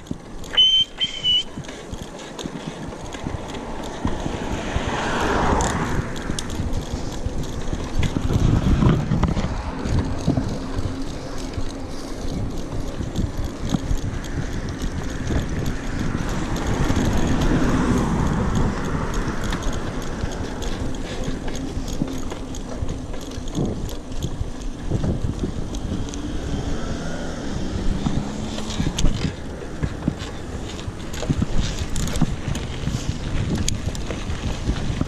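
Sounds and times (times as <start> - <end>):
bike clicks and rattles: 0.0 - 35.0
tyre and wind noise: 0.0 - 35.0.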